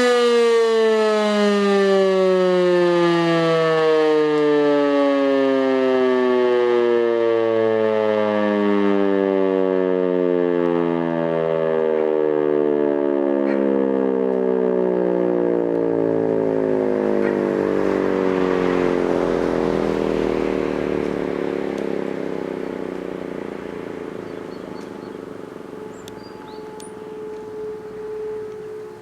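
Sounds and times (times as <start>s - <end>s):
electric siren winding down: 0.0s - 29.0s.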